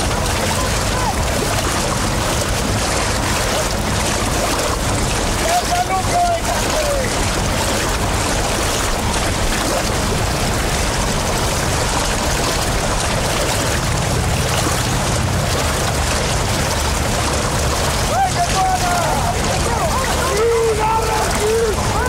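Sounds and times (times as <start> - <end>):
water rushing: 0.0 - 22.0
wind: 0.0 - 22.0.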